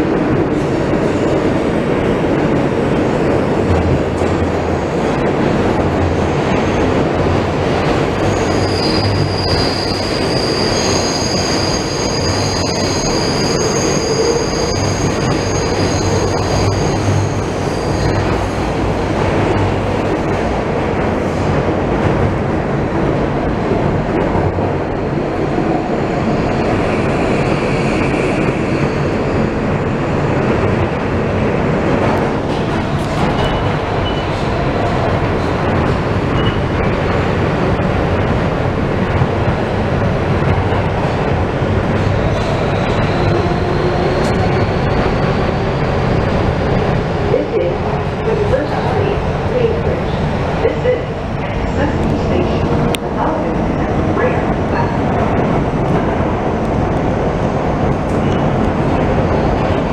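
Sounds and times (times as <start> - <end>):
subway car rumble and hum: 0.0 - 59.9.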